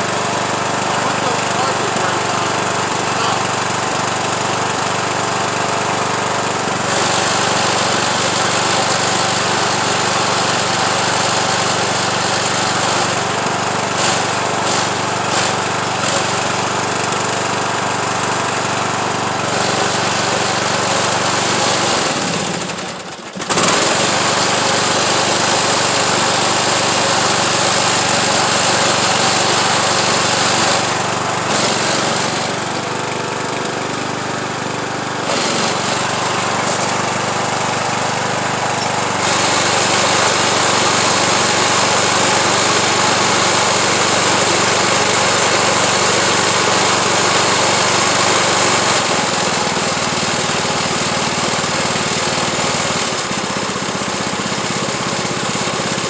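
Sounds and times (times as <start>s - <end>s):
riding mower engine running: 0.0s - 56.0s.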